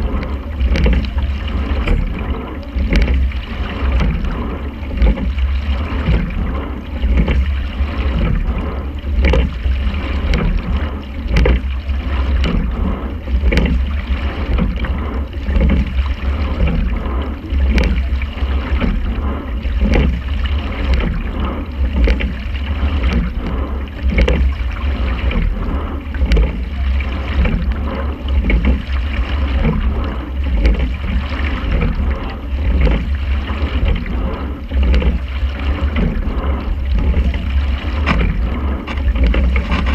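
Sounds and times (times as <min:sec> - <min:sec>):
low rumble: 0:00.0 - 0:39.9
water rushing along hull: 0:00.0 - 0:39.9.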